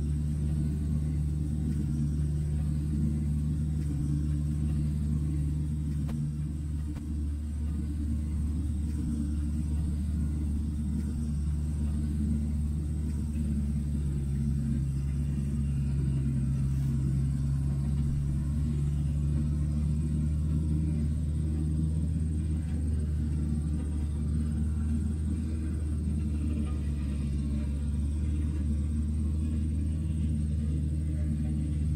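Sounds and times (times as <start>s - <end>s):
diesel engine rumbling: 0.0s - 31.9s.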